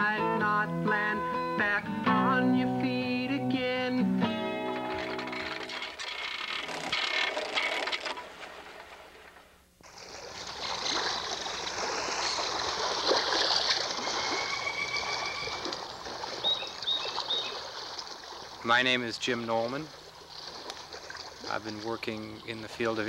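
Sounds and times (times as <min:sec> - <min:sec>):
water splashing along boat hull: 0:03.6 - 0:23.0.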